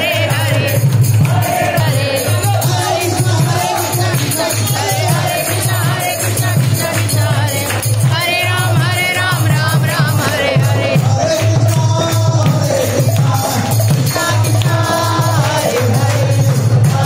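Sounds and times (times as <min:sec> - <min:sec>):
jingling percussion: 0:00.0 - 0:17.0
steady drum beat: 0:00.0 - 0:17.0
voices singing devotional music: 0:00.0 - 0:17.0.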